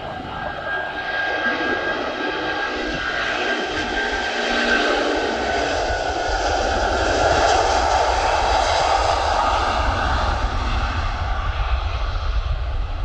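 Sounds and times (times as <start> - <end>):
jet engines roaring at takeoff: 0.0 - 13.0.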